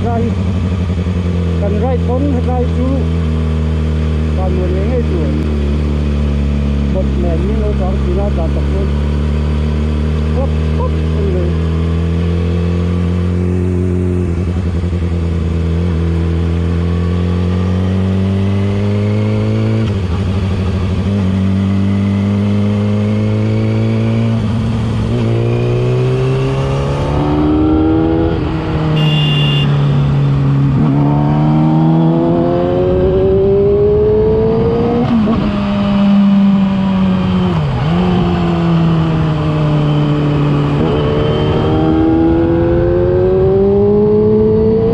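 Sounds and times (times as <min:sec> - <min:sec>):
motorcycle engine revving through gears: 0:00.0 - 0:44.9.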